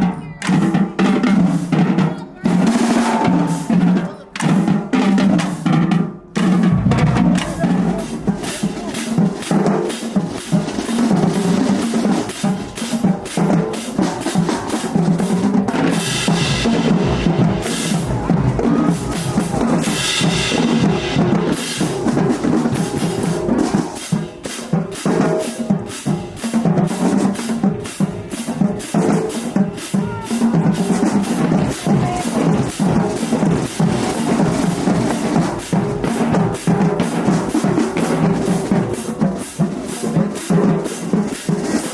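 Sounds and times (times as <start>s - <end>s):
drumline playing cadence: 0.0s - 41.9s.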